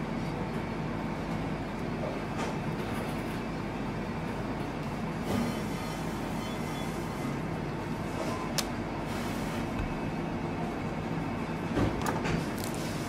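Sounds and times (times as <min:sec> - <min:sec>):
kitchen machine hum: 0:00.0 - 0:13.0.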